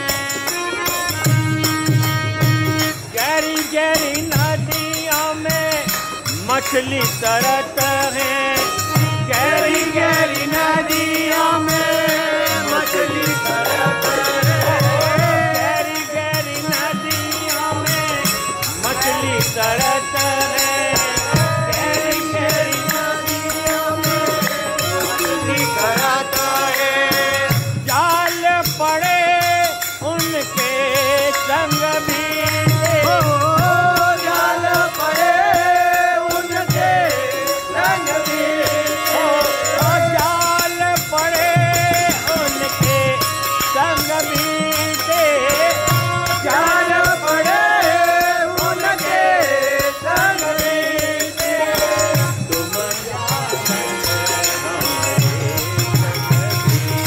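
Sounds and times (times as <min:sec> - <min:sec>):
devotional song melody: 0:00.0 - 0:57.0.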